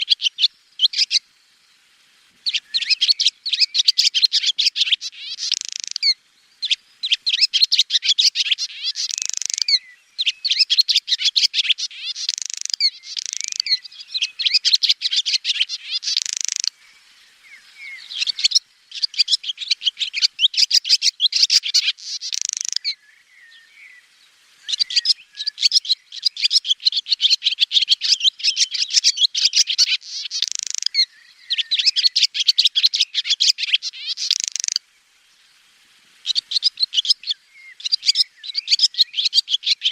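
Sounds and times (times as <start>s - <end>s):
swallow twittering: 0.0s - 1.2s, 2.4s - 24.0s, 24.6s - 34.8s, 36.2s - 39.9s.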